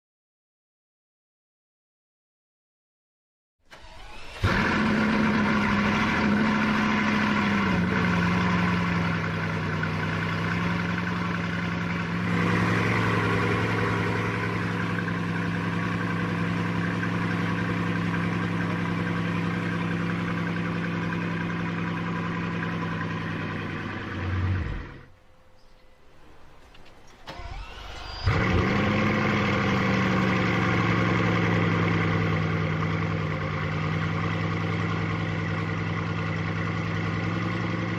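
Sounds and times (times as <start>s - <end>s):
car engine starting and revving: 3.7s - 25.2s, 26.2s - 37.9s
car engine idling: 3.7s - 37.9s.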